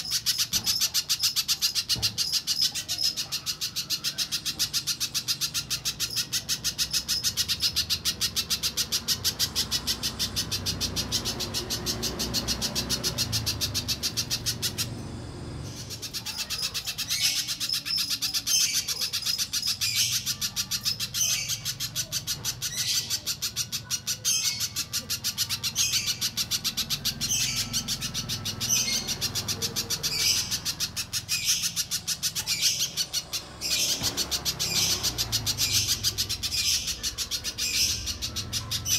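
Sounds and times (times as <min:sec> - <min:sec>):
bird high chipping notes: 0:00.0 - 0:38.9.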